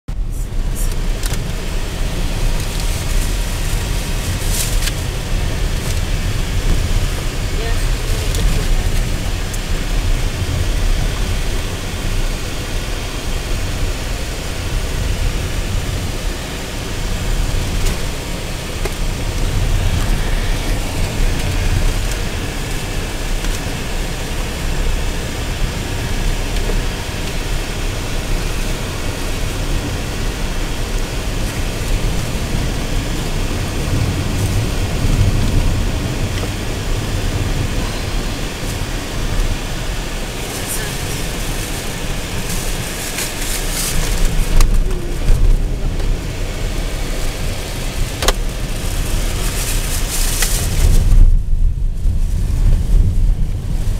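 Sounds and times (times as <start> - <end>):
engine and road rumble: 0.0 - 53.9
tyre and wind hiss: 0.1 - 53.9.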